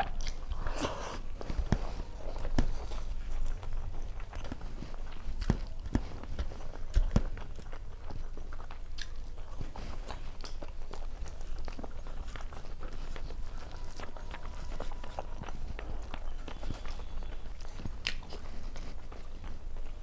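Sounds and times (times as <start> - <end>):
fingers squishing food on plate: 0.0 - 20.0
person chewing with mouth smacks: 0.0 - 20.0.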